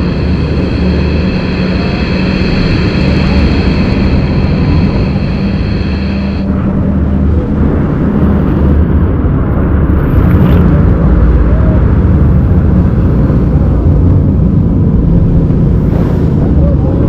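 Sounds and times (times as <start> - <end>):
engine running loudly: 0.0 - 17.0
rushing noise: 0.0 - 17.0.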